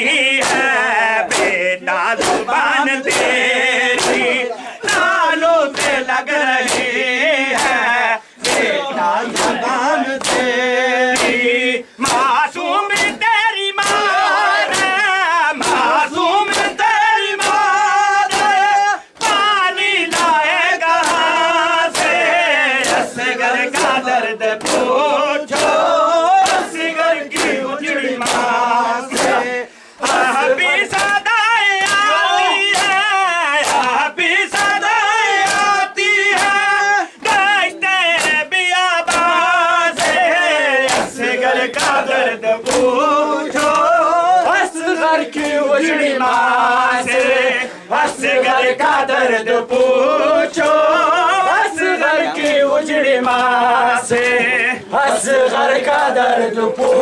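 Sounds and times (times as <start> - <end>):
men chanting in chorus: 0.0 - 57.0
hands slapping bare chests: 0.1 - 57.0.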